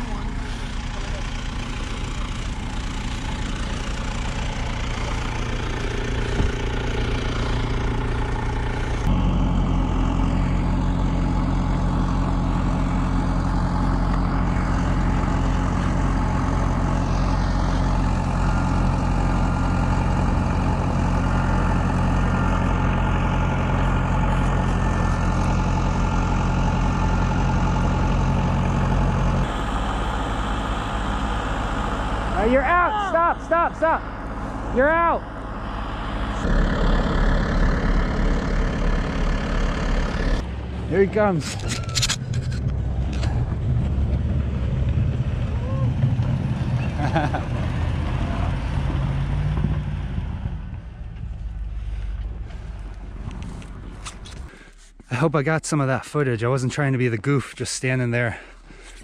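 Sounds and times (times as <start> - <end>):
truck engine revving: 0.0 - 54.7.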